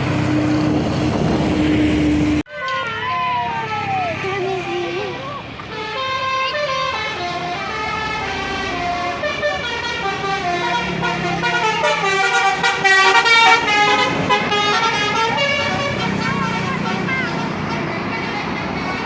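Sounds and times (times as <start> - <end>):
multi-note bus horn tune: 1.6 - 19.0.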